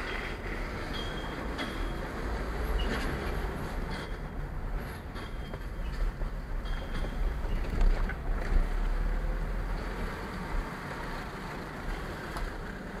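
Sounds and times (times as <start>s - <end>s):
low road rumble: 0.0s - 13.0s.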